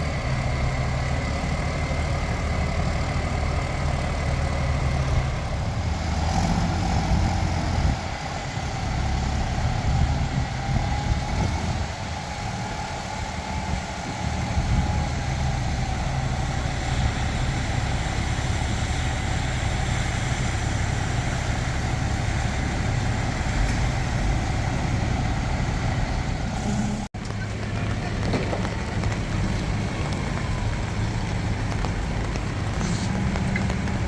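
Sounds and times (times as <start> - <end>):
diesel engine idling with whine: 0.0 - 34.0.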